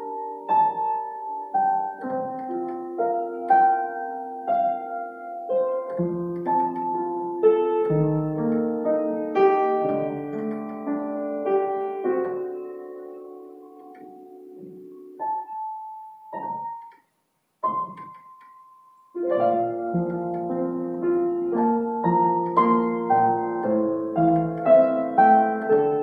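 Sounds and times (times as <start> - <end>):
upright piano playing: 0.0 - 26.0.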